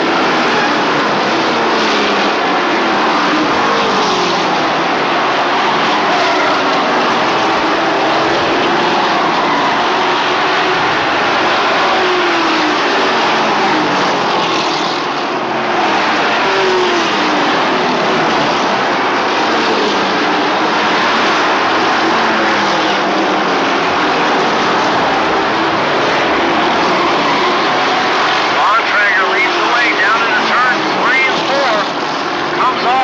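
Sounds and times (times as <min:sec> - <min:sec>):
race truck engines passing: 0:00.0 - 0:33.0.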